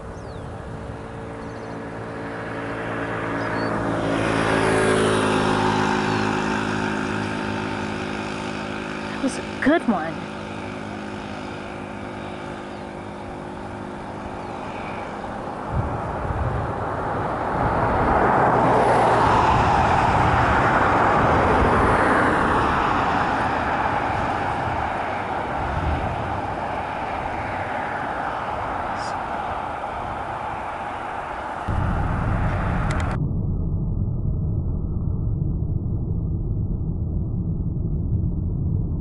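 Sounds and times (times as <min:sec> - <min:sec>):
vehicle passing on road: 0:00.0 - 0:33.2.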